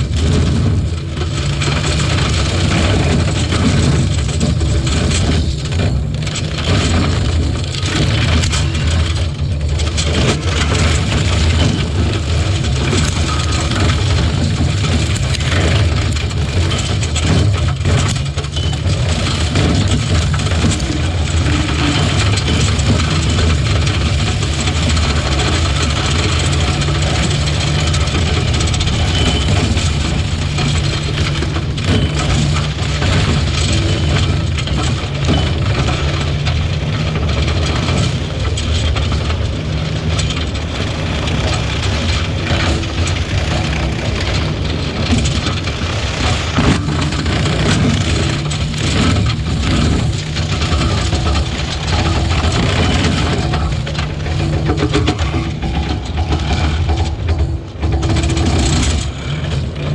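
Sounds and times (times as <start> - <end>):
engine running steadily: 0.0 - 59.9
rough crackling noise: 0.0 - 59.9.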